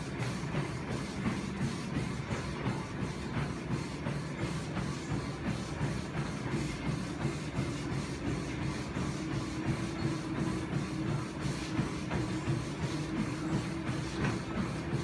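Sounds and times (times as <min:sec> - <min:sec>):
cardio machine motor hum: 0:00.0 - 0:15.0.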